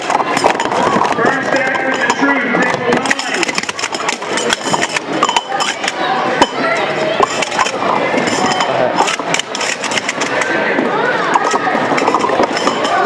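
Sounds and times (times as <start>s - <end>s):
metal cups clinking: 0.0s - 10.6s, 11.3s - 13.0s.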